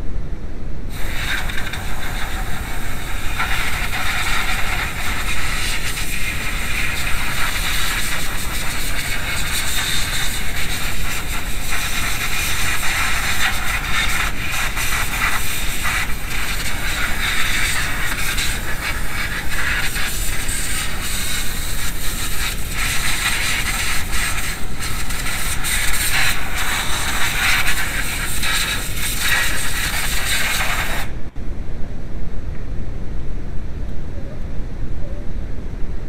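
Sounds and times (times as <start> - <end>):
compressed air hissing: 0.9 - 31.2.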